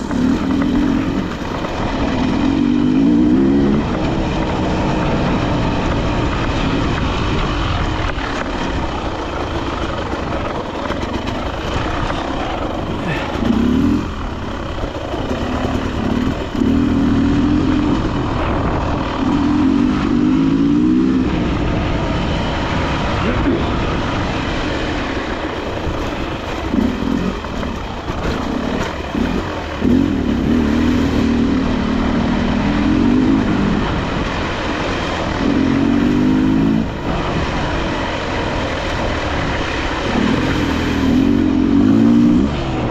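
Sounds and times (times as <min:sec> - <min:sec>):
constant rushing noise: 0:00.0 - 0:42.9
dirt bike engine revving: 0:00.0 - 0:42.9.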